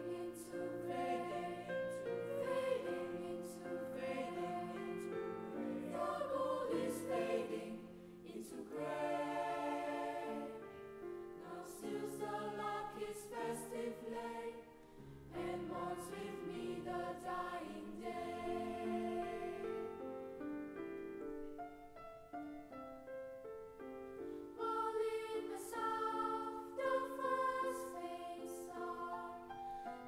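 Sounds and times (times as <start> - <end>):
choir singing held chords: 0.0 - 20.1, 24.4 - 30.0.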